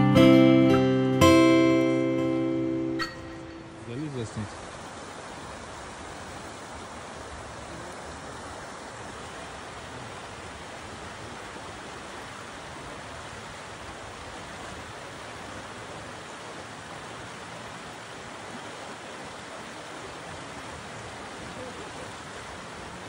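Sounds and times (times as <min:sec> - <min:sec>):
river rushing over rocks: 0:01.2 - 0:23.0.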